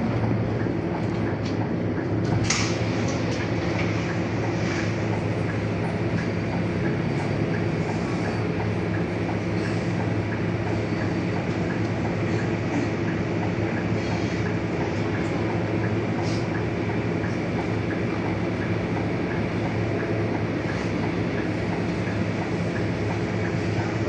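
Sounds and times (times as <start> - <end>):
bus diesel engine droning: 0.0 - 24.0.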